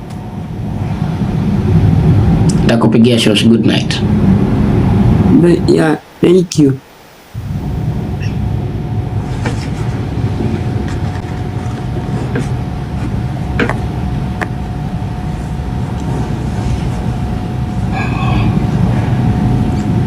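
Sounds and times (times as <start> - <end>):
low rumble: 0.0 - 5.8, 7.2 - 20.0
thin constant whine: 0.0 - 20.0.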